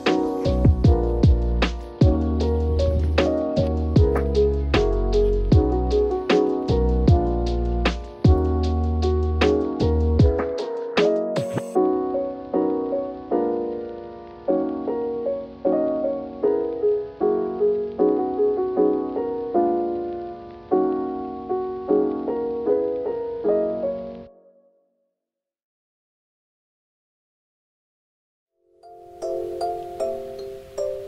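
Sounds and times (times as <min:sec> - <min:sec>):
slow piano piece: 0:00.0 - 0:24.7, 0:28.8 - 0:31.0.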